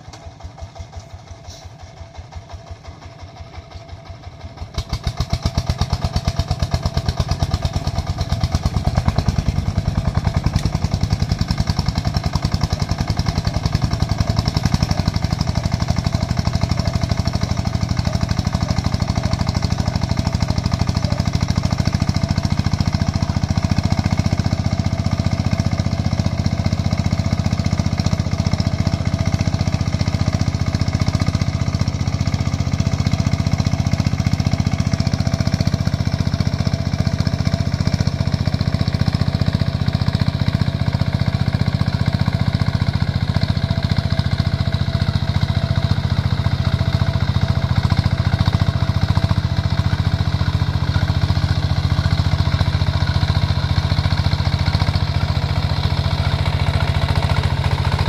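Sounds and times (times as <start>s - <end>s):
tractor diesel engine knocking: 0.0s - 58.0s.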